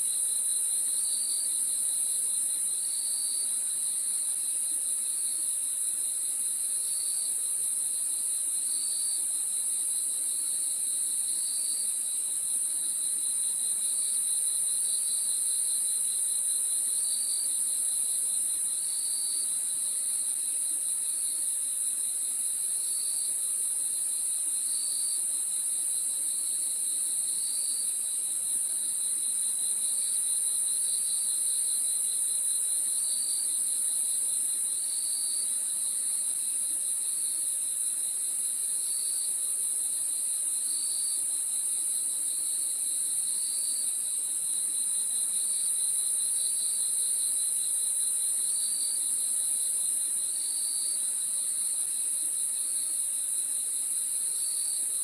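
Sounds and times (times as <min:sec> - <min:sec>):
lower-pitched cricket chirps: 0:00.0 - 0:55.0
crickets trilling: 0:00.1 - 0:49.3.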